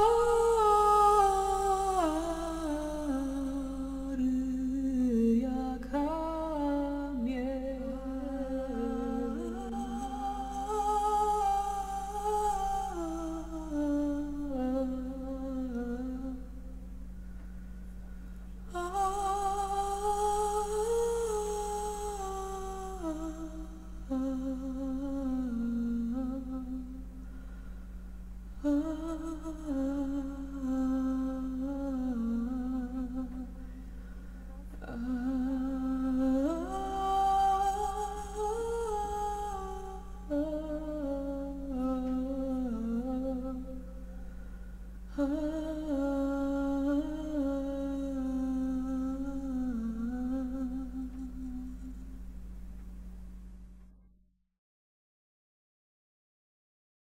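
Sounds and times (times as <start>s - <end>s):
woman humming a melody: 0.0s - 16.8s, 18.7s - 27.1s, 28.6s - 33.8s, 34.4s - 44.2s, 45.1s - 52.2s
steady low drone: 0.0s - 54.0s.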